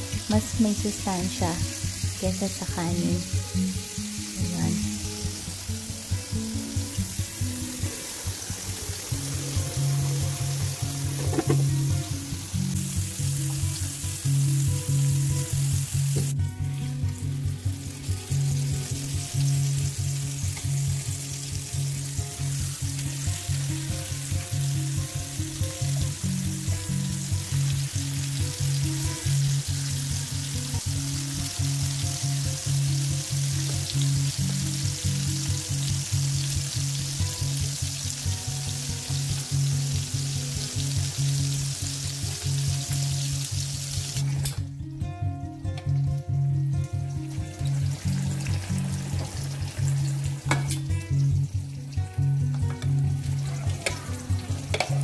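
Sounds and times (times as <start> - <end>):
pork chops sizzling in oil: 0.0 - 44.7, 45.9 - 55.0
background music with low notes: 0.0 - 55.0.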